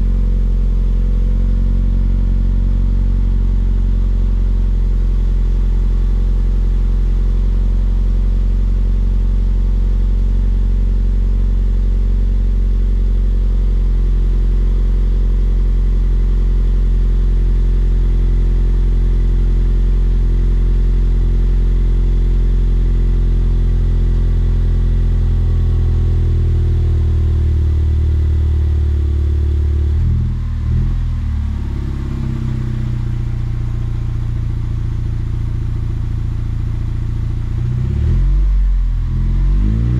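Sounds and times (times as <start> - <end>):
car engine idling: 0.0 - 39.6.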